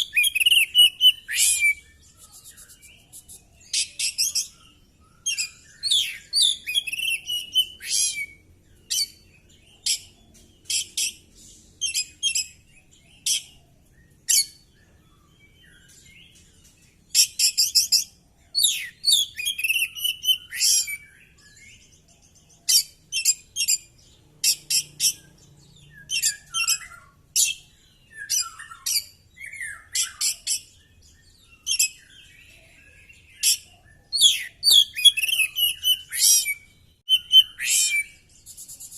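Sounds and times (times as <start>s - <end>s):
bird singing chips and whistles: 0.0s - 9.2s, 13.2s - 21.8s, 22.6s - 38.9s.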